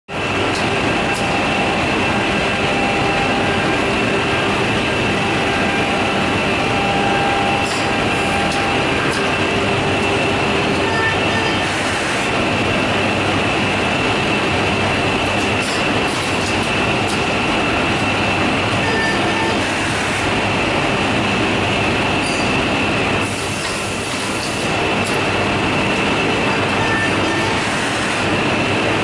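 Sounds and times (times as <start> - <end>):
woodworking machine clatter and whine: 0.1 - 29.0.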